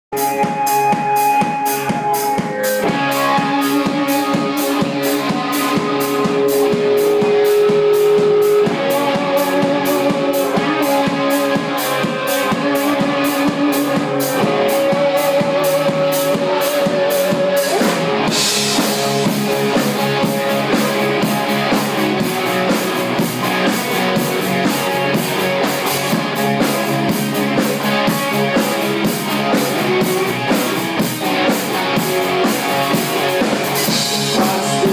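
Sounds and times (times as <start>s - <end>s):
drum kit steady beat: 0.1s - 34.9s
electric bass: 0.1s - 34.9s
electric guitar lead notes: 0.2s - 34.9s.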